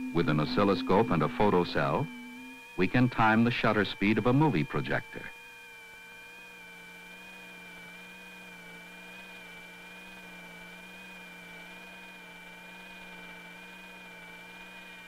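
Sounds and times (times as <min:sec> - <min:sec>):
movie projector whirring: 0:00.0 - 0:15.0.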